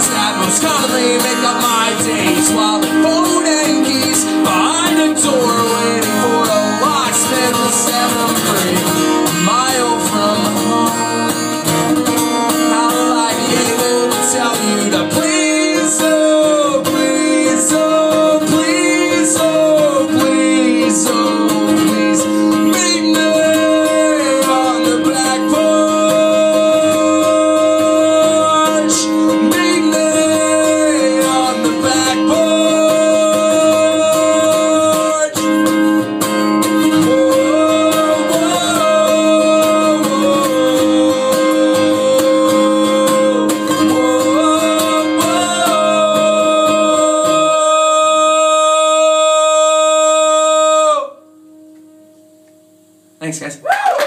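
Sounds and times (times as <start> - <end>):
man singing: 0.0 - 36.0, 36.6 - 51.3
strummed acoustic guitar: 0.0 - 53.6.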